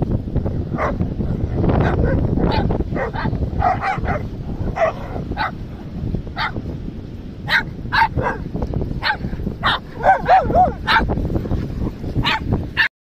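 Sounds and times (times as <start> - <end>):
dogs barking and yipping: 0.7 - 6.7, 7.4 - 11.2, 11.8 - 12.9.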